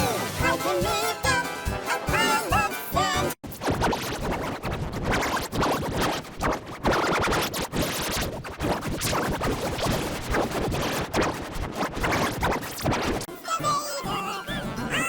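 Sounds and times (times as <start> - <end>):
scratchy record-scratch noise: 0.0 - 15.0.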